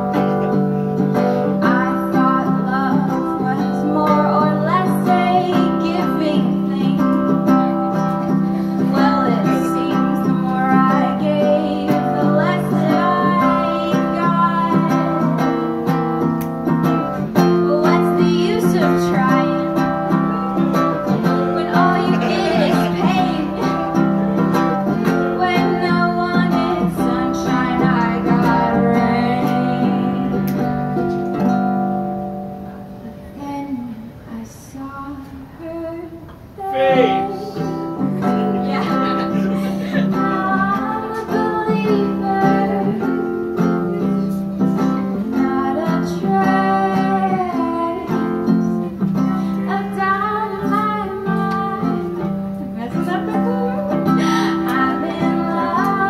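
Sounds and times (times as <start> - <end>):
strummed acoustic guitar: 0.0 - 33.6, 36.6 - 56.0
woman singing: 1.0 - 16.0, 16.9 - 31.6, 33.0 - 56.0.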